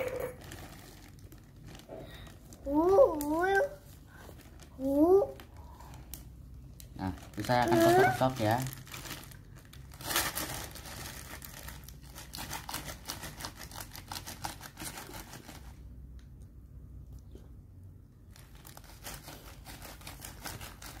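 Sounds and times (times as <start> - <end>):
plastic bag crinkling: 0.0 - 16.0, 18.2 - 21.0.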